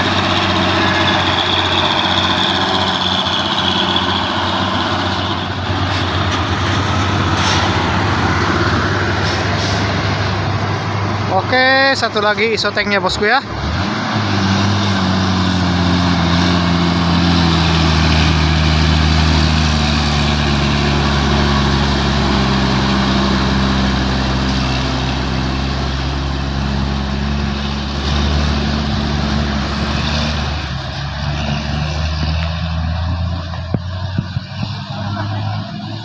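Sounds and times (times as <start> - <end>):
diesel truck engine under load: 0.0 - 36.0.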